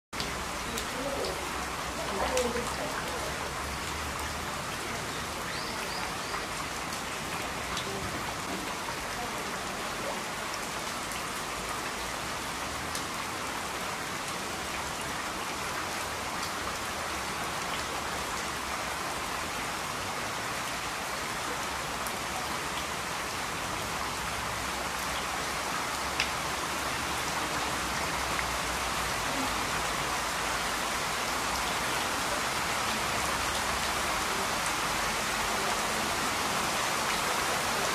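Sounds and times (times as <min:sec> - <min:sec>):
rain on walkway and foliage: 0:00.1 - 0:37.9.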